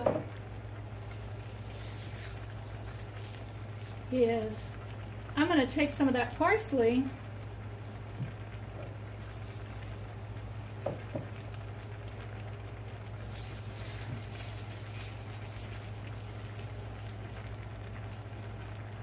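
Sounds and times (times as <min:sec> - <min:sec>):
gas burner hissing: 0:00.0 - 0:19.0
low hum: 0:00.0 - 0:19.0.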